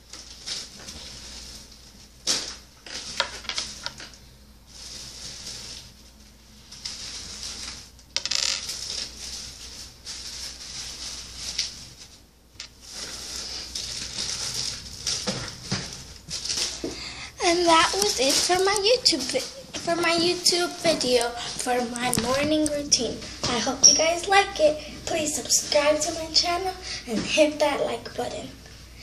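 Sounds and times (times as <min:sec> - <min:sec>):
rustling: 0:00.0 - 0:26.7.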